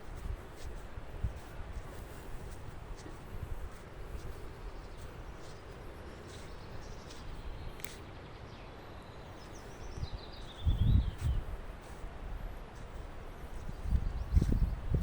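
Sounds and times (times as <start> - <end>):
wind rumbling on microphone: 0.0 - 8.0, 9.3 - 15.0.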